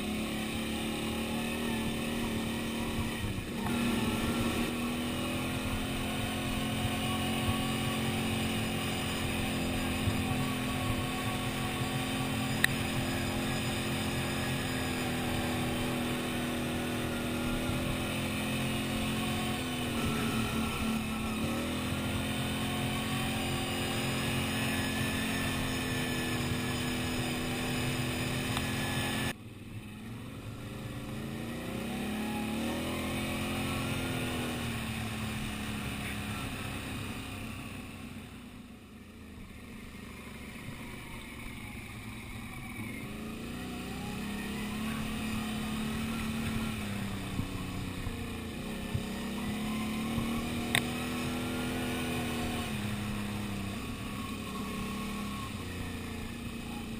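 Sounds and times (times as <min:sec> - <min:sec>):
quad bike engine revving: 0:00.0 - 0:56.9.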